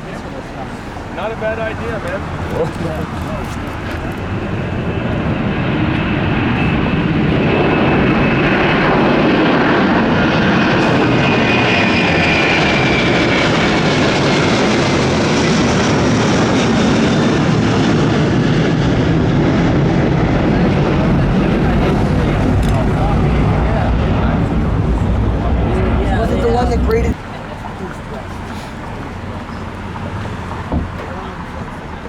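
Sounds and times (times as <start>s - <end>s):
high engine whine: 0.0s - 32.0s
jet engines roaring overhead: 0.0s - 32.0s.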